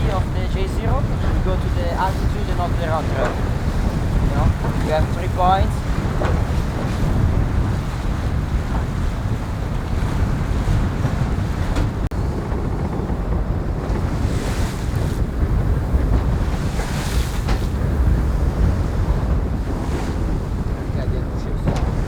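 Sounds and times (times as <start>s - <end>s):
water rushing past a hull: 0.0s - 22.0s
wind buffeting the microphone: 0.0s - 22.0s.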